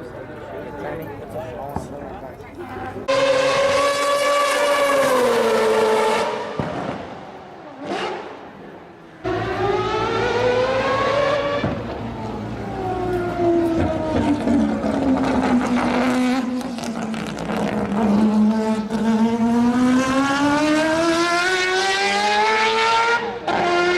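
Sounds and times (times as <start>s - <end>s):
car passing: 2.7s - 23.9s
race car engine at high revs: 3.0s - 23.9s.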